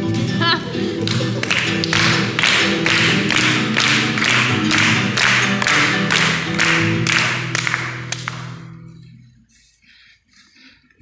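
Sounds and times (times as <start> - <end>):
acoustic guitar strumming: 0.0 - 9.2.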